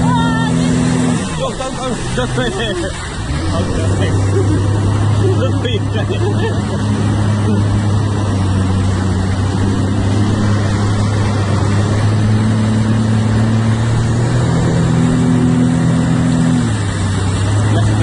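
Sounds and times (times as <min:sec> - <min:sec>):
jet ski engine running: 0:00.0 - 0:18.0.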